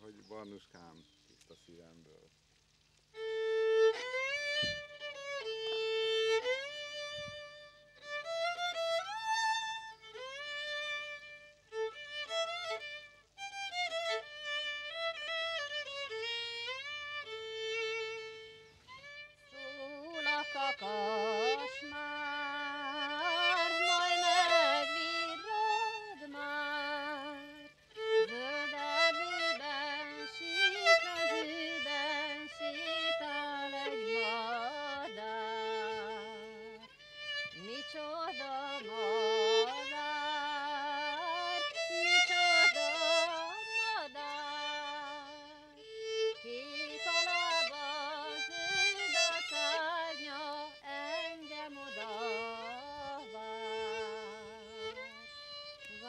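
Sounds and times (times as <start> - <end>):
second lower violin line: 0.0 - 56.0
solo violin folk melody: 0.0 - 56.0.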